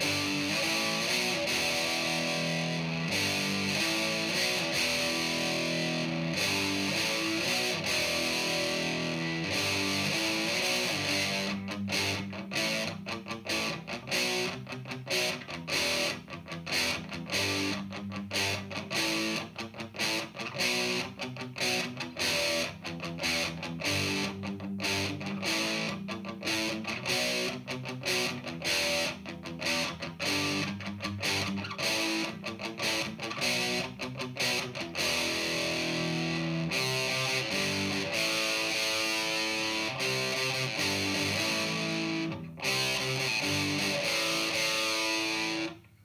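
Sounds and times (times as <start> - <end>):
choppy guitar riff: 0.0 - 46.0
fuzzy electric guitar chords: 0.0 - 46.0.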